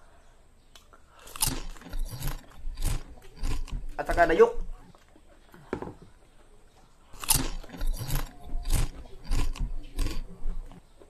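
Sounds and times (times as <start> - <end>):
crunchy chewing of raw vegetables: 0.8 - 5.8, 7.1 - 11.0.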